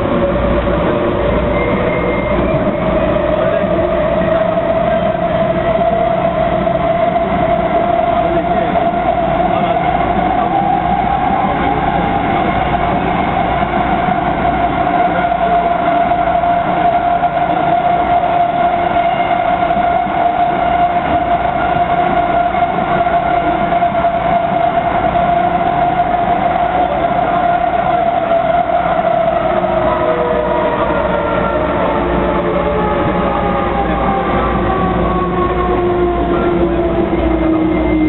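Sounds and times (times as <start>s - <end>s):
train traction motor whine: 0.0s - 38.0s
wheels rumbling on rails: 0.0s - 38.0s.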